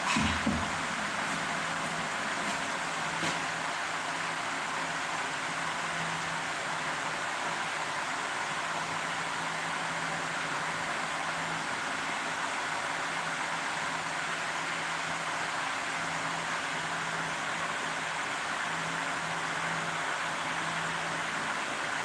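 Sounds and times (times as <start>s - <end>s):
fan rushing: 0.0s - 22.0s.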